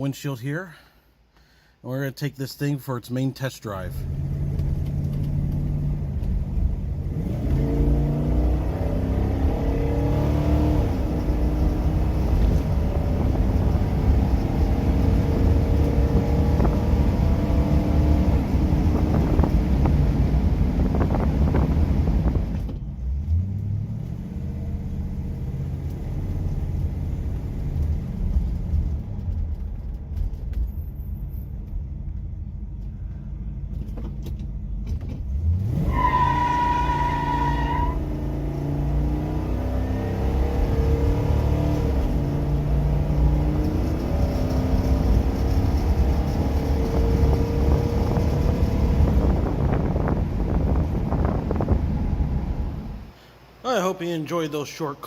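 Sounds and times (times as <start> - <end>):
car engine accelerating: 3.9 - 30.4, 34.8 - 53.1.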